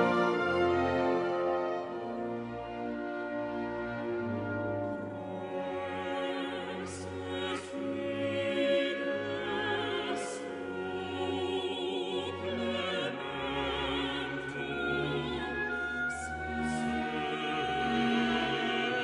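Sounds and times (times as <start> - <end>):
choir singing: 0.0 - 19.0
orchestra playing: 0.0 - 19.0.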